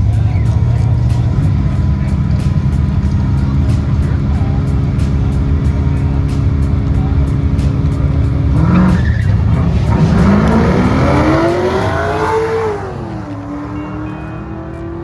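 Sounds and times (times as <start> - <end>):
tires squealing: 0.0 - 15.0
car engine revving hard: 0.1 - 15.0.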